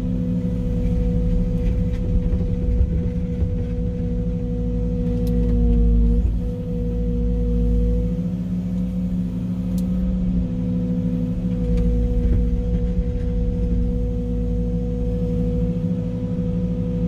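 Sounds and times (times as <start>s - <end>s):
constant whining tone: 0.0s - 17.0s
excavator engine drone: 0.0s - 17.0s.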